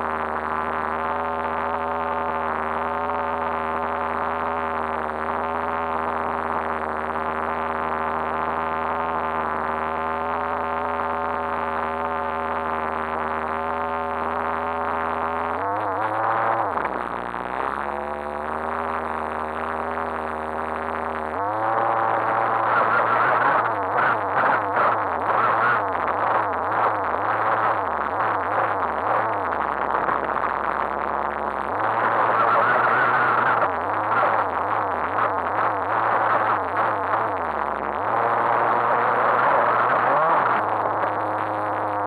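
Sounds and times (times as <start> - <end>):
muffled rc car engine idling: 0.0 - 42.0.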